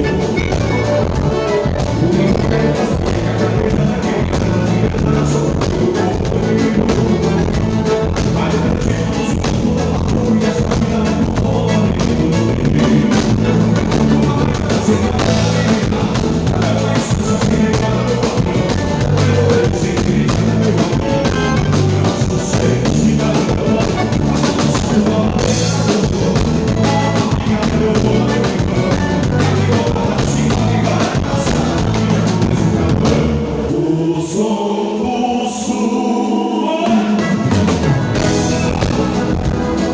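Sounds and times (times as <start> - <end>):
drum kit beat: 0.0 - 33.8, 36.9 - 39.9
live band playing: 0.0 - 34.1, 36.2 - 39.9
repeating bass line: 0.0 - 34.1, 37.2 - 39.9.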